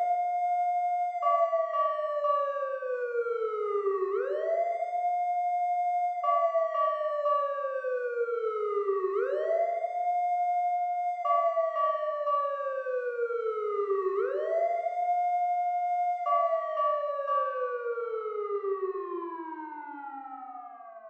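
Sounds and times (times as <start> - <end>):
siren wailing: 0.0 - 21.0.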